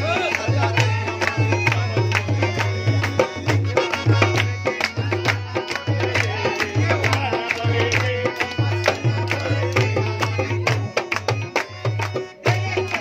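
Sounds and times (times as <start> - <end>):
harmonium notes: 0.0 - 13.0.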